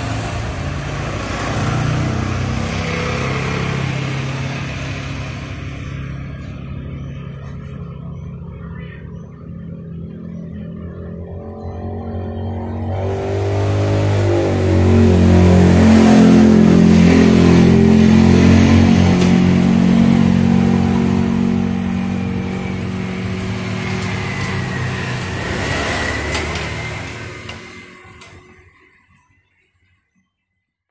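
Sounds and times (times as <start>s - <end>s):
vehicle engine revving: 0.0s - 28.5s.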